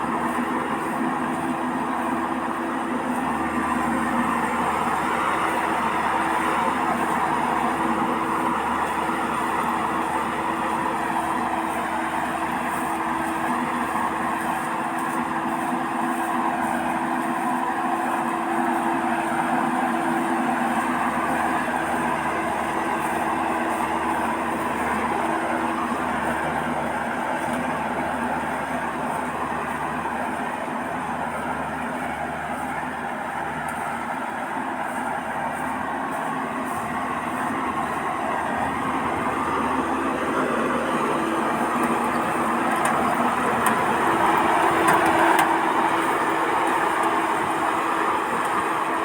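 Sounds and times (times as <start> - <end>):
combine harvester running: 0.0 - 49.0.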